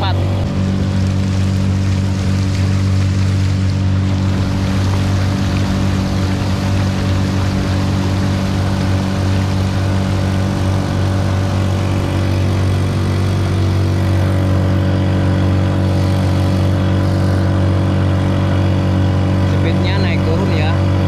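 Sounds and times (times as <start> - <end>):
motorcycle engine at high revs: 0.0 - 21.0
water rushing along hull: 0.0 - 21.0.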